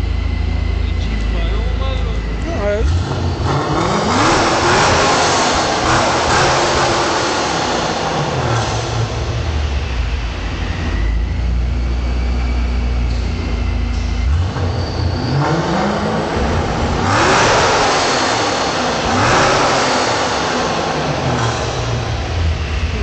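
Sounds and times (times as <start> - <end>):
car engine rumbling and revving: 0.0 - 23.0.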